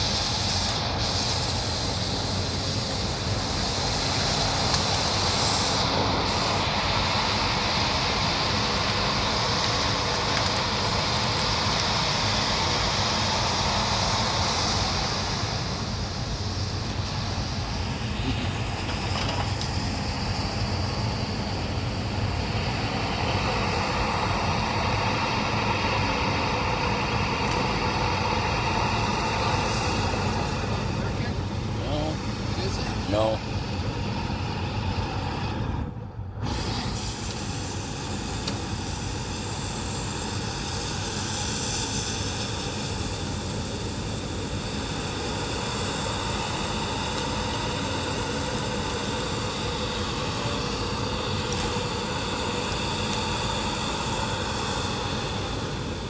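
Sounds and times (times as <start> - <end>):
high hiss: 0.0 - 34.6, 36.4 - 56.0
forestry machine diesel engine: 0.0 - 56.0
whine: 0.0 - 56.0.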